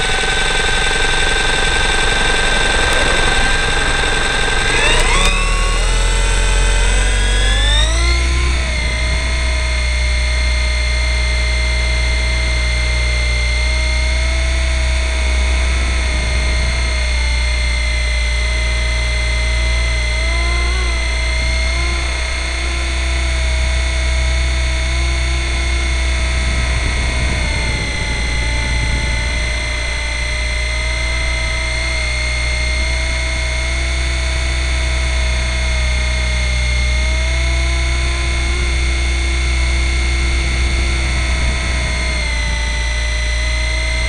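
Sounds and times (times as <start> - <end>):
rc helicopter motor whine: 0.0 - 44.0
rotor drone: 0.0 - 44.0.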